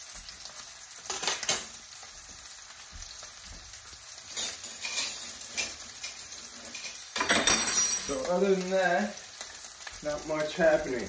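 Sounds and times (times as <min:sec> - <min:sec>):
steaks sizzling in hot oil: 0:00.0 - 0:11.0.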